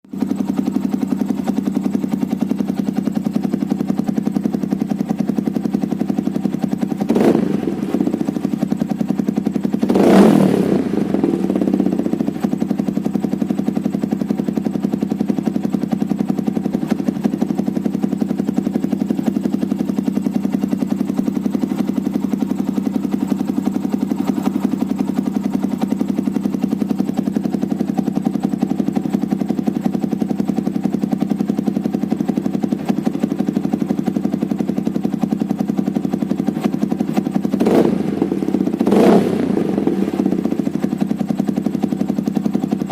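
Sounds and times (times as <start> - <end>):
motorcycle engine idling: 0.0 - 42.9
motorcycle throttle blips: 0.2 - 42.9.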